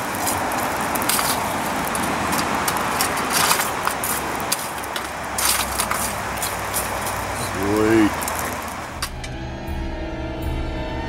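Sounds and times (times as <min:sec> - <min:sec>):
poker scraping through coal: 0:00.0 - 0:09.1
forge fire roaring: 0:00.0 - 0:09.4.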